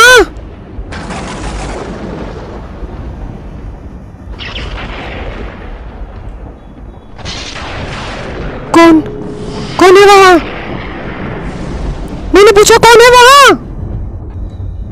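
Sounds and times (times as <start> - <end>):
low rumble: 0.3 - 14.9.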